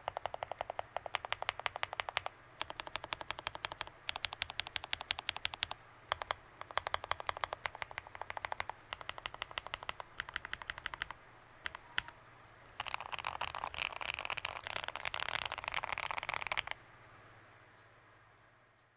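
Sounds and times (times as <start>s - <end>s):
mechanical keyboard typing: 0.0s - 12.2s, 12.8s - 16.8s.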